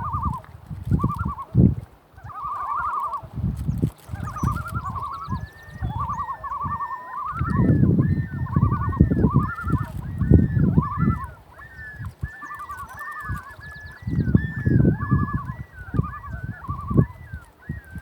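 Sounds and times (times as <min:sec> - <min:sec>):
loons calling: 0:00.0 - 0:01.6, 0:02.2 - 0:18.0.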